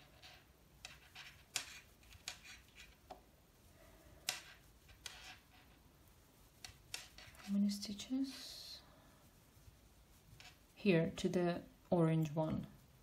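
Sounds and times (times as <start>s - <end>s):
yarn rustling: 0.0s - 13.0s.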